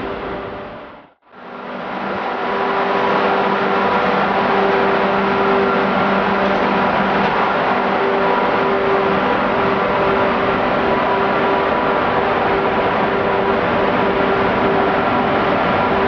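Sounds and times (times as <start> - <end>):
electric locomotive passing: 0.0 - 16.0.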